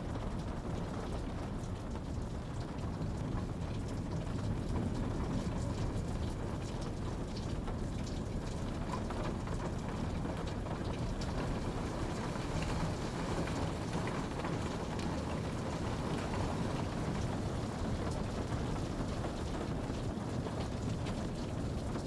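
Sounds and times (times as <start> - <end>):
raindrops pattering: 0.0 - 22.0
steady rain falling: 0.0 - 22.0.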